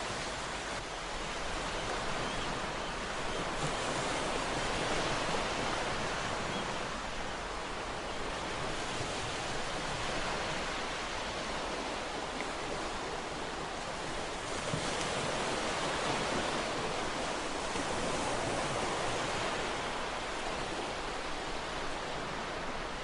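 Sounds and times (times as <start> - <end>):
ocean waves breaking: 0.0 - 23.0.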